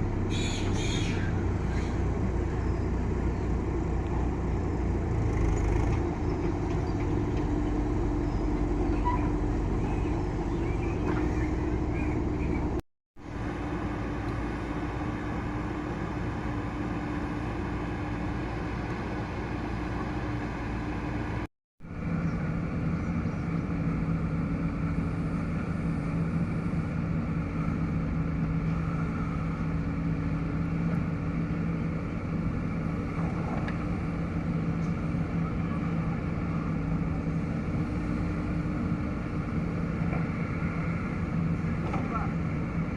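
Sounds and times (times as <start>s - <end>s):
diesel engines running: 0.0s - 42.9s.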